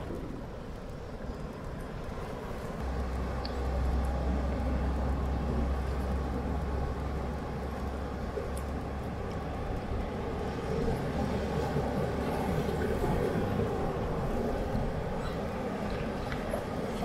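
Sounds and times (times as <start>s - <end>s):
outdoor seaside noise: 0.0s - 17.0s
wind rumble on microphone: 0.0s - 17.0s.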